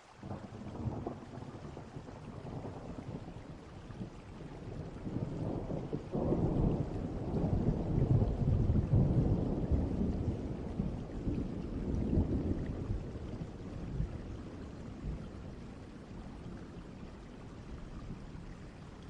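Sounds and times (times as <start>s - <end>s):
steady rain: 0.0s - 19.0s
distant thunder rolling: 0.2s - 18.7s.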